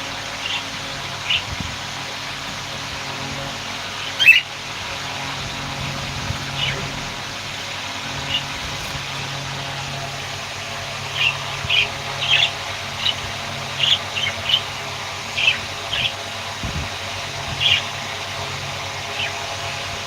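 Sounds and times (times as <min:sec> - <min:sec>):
budgerigars chirping: 0:00.2 - 0:02.9, 0:03.5 - 0:04.5, 0:05.4 - 0:09.2, 0:10.7 - 0:19.6.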